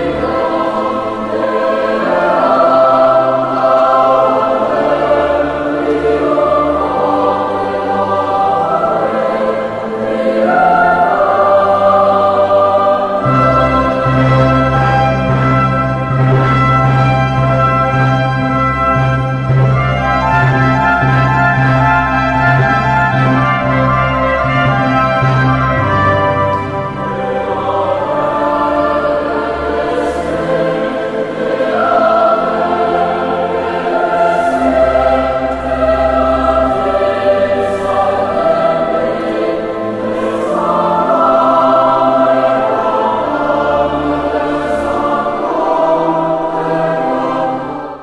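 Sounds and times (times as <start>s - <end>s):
choir singing sacred music: 0.0s - 48.0s.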